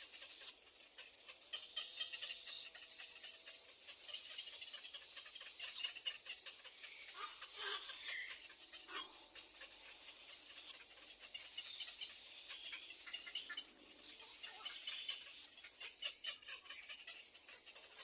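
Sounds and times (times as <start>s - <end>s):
nestling birds cheeping: 0.0s - 18.0s.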